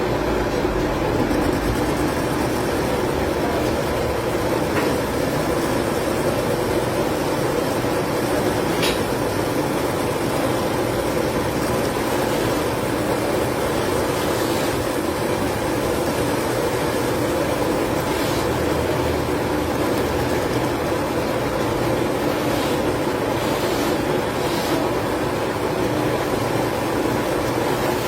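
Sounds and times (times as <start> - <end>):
steady machine noise: 0.0 - 28.0.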